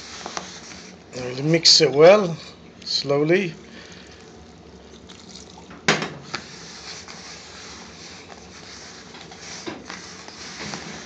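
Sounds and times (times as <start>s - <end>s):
hands mixing wet dough: 0.0s - 11.0s.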